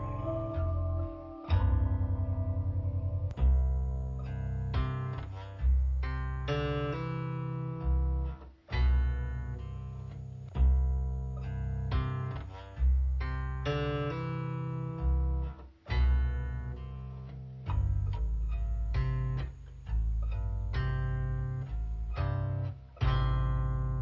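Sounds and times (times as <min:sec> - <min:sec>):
low bass notes: 0:00.0 - 0:24.0
plucked acoustic guitar: 0:00.0 - 0:24.0.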